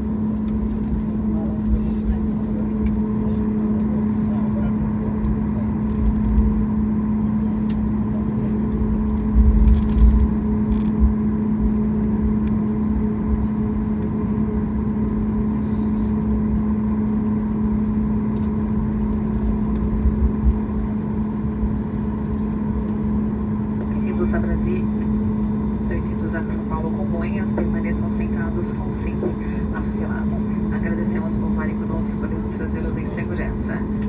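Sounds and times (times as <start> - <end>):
aircraft engine hum: 0.0 - 34.0.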